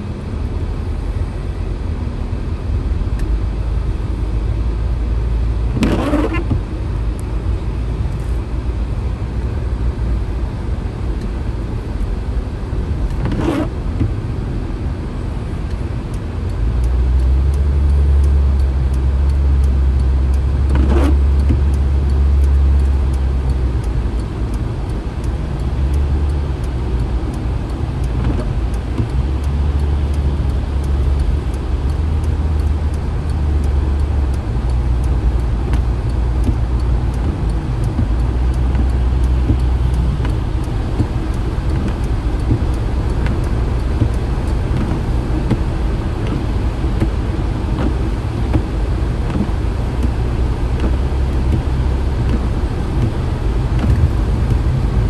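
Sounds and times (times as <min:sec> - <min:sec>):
car engine and road rumble: 0:00.0 - 0:55.0
tyres hissing on wet road: 0:05.4 - 0:09.6, 0:11.3 - 0:55.0.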